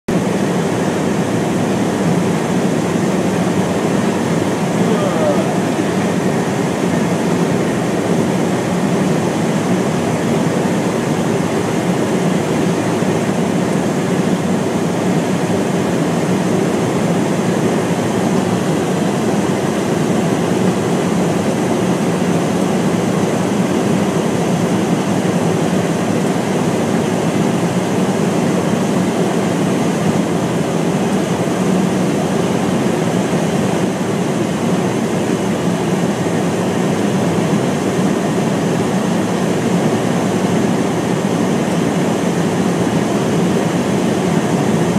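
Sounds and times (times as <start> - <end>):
jet engines droning: 0.1 - 44.9
rushing airflow: 0.1 - 44.9.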